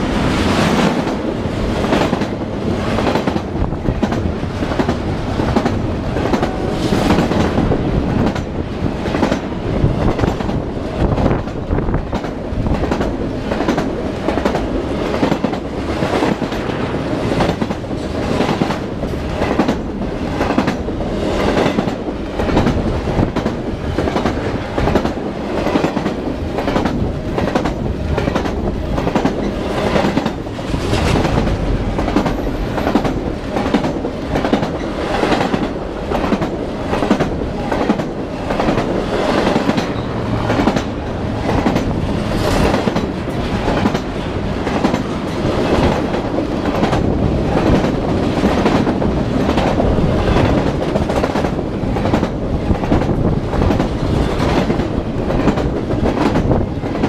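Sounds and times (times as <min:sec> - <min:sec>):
train rumble: 0:00.0 - 0:57.0
train wheels clacking on rail joints: 0:00.1 - 0:57.0.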